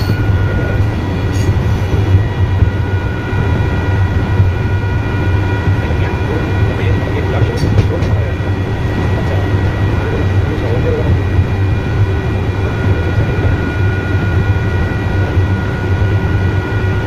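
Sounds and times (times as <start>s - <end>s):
high whine: 0.0s - 17.0s
train low rumble: 0.0s - 17.0s.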